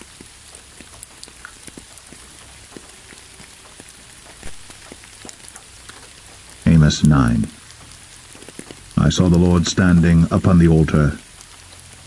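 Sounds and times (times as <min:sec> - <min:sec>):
rain on a hard surface: 0:00.0 - 0:12.0.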